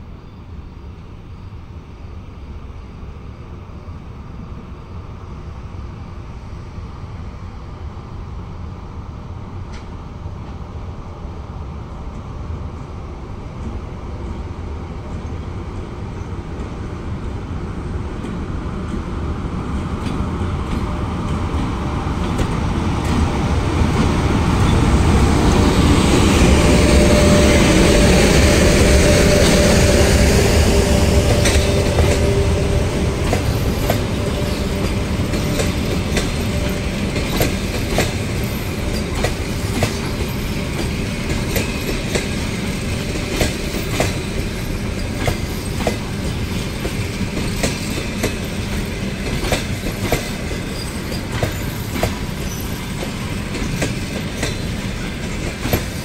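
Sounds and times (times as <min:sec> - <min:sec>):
train passing low rumble: 0:00.0 - 0:56.0.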